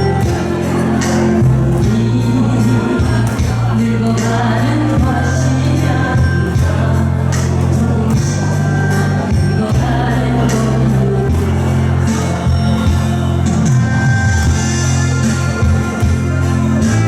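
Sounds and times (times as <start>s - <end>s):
person singing: 0.0s - 13.8s
trot song backing track: 0.0s - 17.0s.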